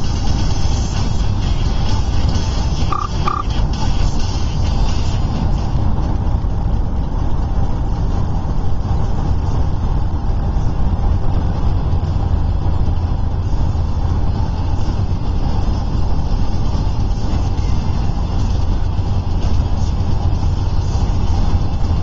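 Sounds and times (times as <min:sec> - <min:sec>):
car cabin road and engine noise: 0:00.0 - 0:22.0.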